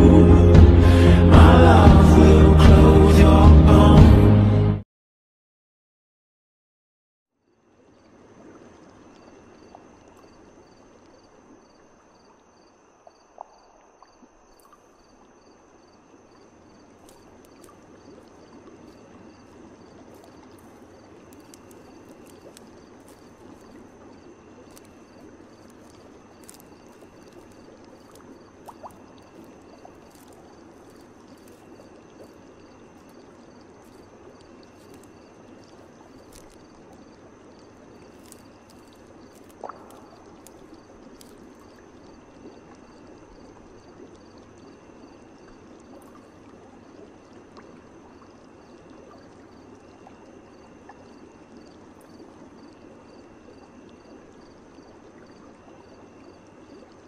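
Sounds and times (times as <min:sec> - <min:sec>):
gently running water: 0:07.9 - 0:57.0.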